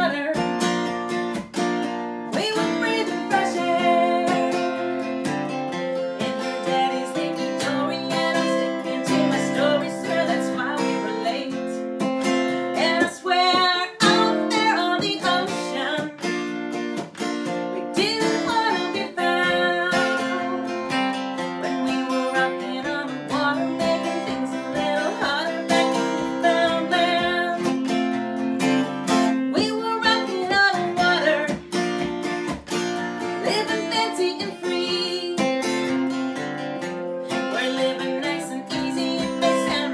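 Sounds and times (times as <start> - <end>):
woman singing: 0.0 - 1.0, 2.2 - 16.5, 17.6 - 32.2, 33.0 - 36.2, 36.9 - 39.9
acoustic guitar strumming: 0.0 - 39.9.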